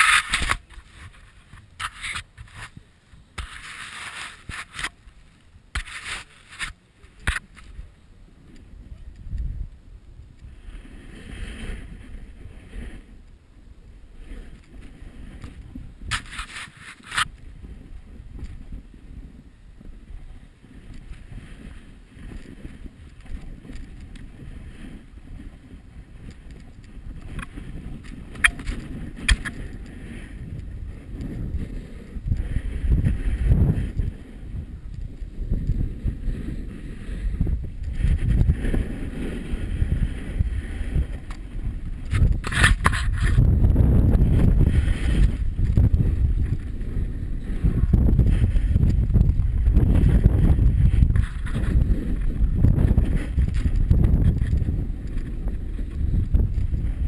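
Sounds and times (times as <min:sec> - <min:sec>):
snowboard scraping on icy snow: 0:00.0 - 0:07.5, 0:10.5 - 0:13.2, 0:14.2 - 0:15.4, 0:16.0 - 0:20.0, 0:20.6 - 0:57.0.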